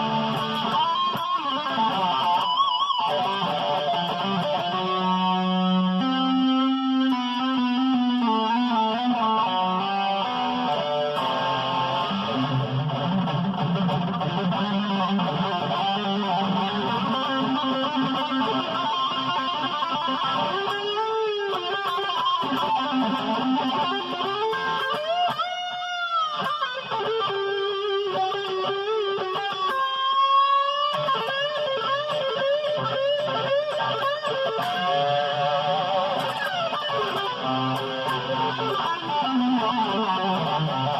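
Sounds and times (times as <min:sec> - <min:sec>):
electric guitar with pitch bends: 0:00.0 - 0:40.9.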